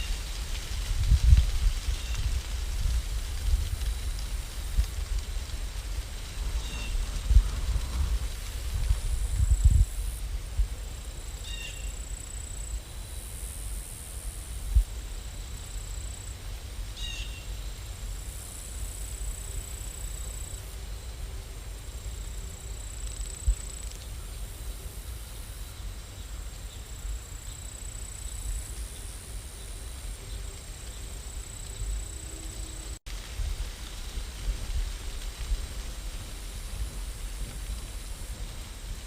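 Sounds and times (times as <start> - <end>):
crickets chirring: 0.0 - 39.0
steady rain: 0.0 - 39.0.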